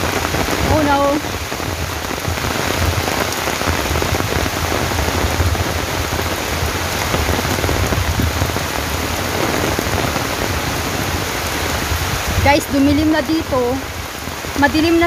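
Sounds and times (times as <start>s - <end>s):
heavy rain on foliage: 0.0s - 15.0s.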